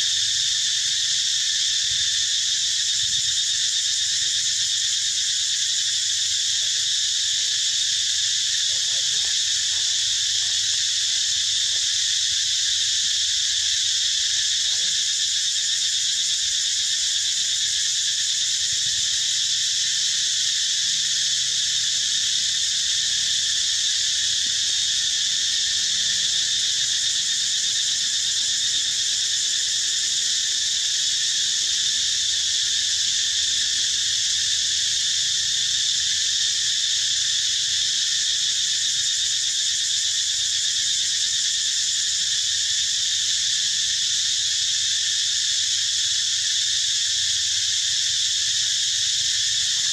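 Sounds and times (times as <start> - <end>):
insect chorus drone: 0.0 - 49.9.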